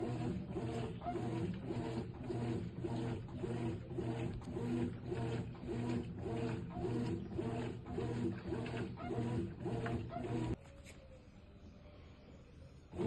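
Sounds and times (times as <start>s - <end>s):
washing machine agitating: 0.0s - 10.6s.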